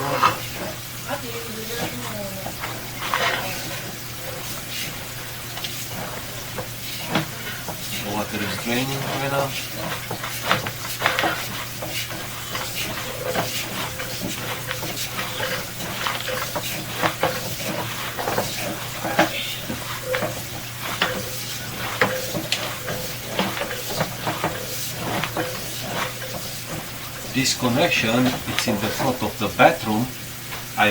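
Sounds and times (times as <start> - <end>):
steady electrical hum: 0.0 - 30.9
water rushing down drain pipe: 0.0 - 30.9.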